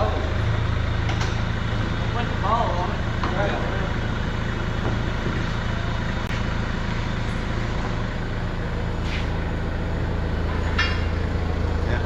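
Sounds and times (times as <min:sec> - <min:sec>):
engine-like rumble: 0:00.0 - 0:12.0.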